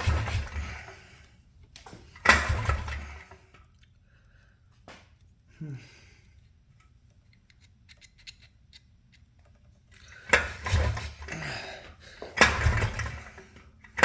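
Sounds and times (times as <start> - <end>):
recoil starter cranking engine: 0.0 - 3.8, 6.1 - 14.0.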